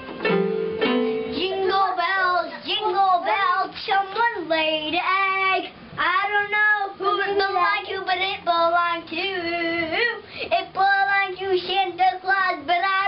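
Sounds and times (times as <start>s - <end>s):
boy singing: 1.3s - 13.0s.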